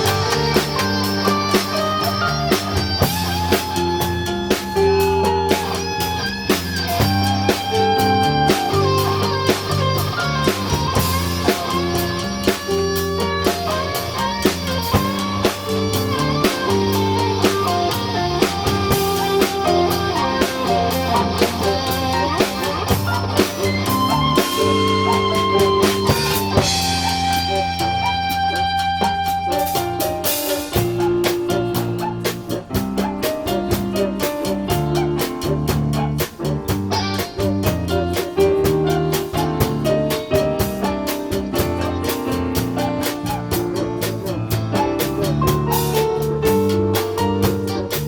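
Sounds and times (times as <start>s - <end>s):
bass: 0.0s - 48.0s
guitar: 0.0s - 48.0s
held chords: 0.0s - 48.0s
steady drum beat: 0.0s - 48.0s.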